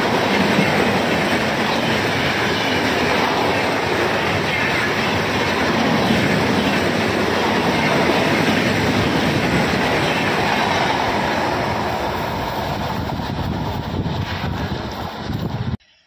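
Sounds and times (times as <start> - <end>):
train wheels rushing on track: 0.0 - 15.8.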